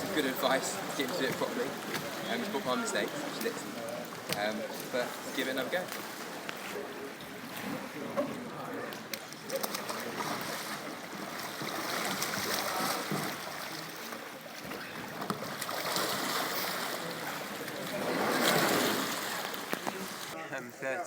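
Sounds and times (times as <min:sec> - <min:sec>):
water sloshing and splashing: 0:00.0 - 0:20.4.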